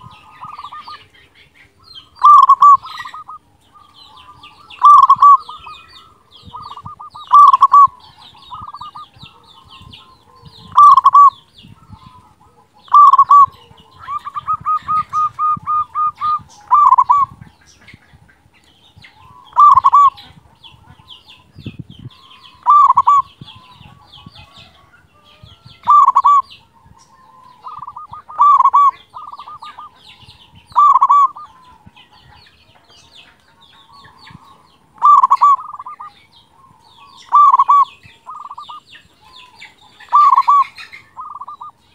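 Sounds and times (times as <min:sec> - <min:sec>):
dove cooing: 0:00.0 - 0:17.5, 0:19.2 - 0:21.1, 0:22.3 - 0:24.9, 0:25.8 - 0:32.0, 0:33.4 - 0:41.8
small birds chirping: 0:00.0 - 0:41.9.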